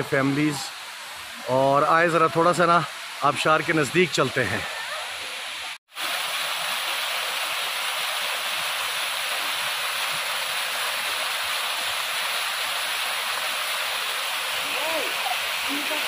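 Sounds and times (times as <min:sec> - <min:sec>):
water rushing down rocks: 0:00.0 - 0:16.0.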